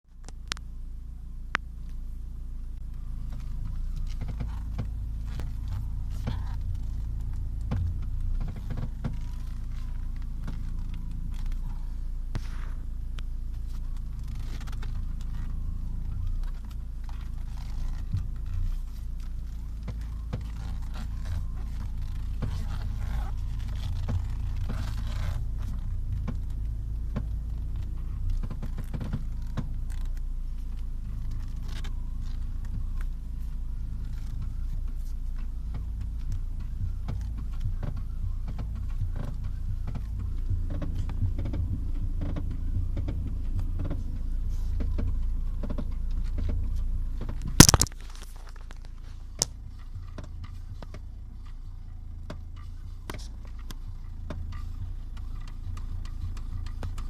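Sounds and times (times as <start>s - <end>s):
steady low rumble: 0.0s - 57.0s
car suspension creaking: 0.1s - 57.0s.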